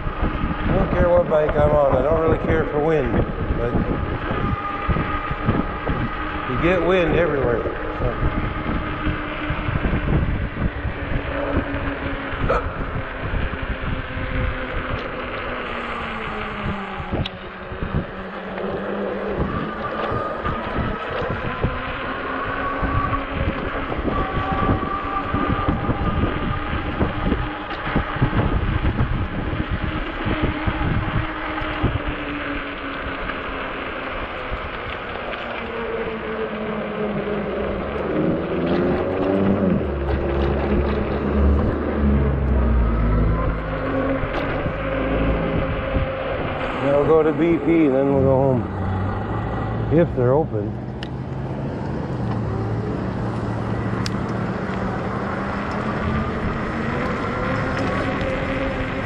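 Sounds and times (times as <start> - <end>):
electric motor whining: 0.0 - 59.0
wind buffeting microphone: 0.0 - 59.0.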